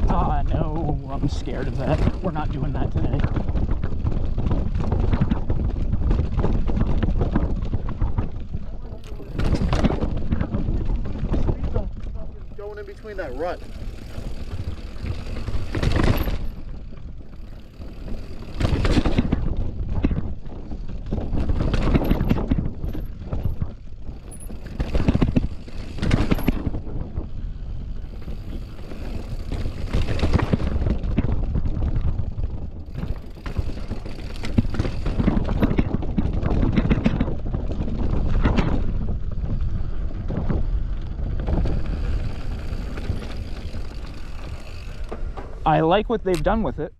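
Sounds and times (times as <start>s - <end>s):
bike tyres rolling over dirt: 0.0s - 46.9s.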